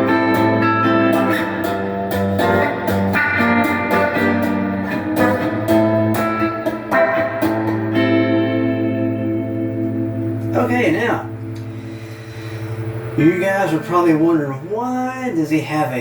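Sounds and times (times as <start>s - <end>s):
electric guitar notes and chords: 0.0s - 14.7s.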